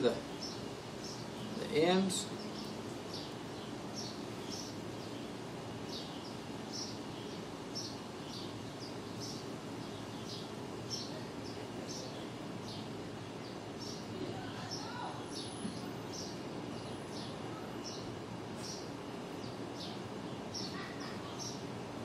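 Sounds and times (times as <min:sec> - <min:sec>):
small bird chirping: 0:00.0 - 0:21.7
steady background hiss: 0:00.0 - 0:22.0.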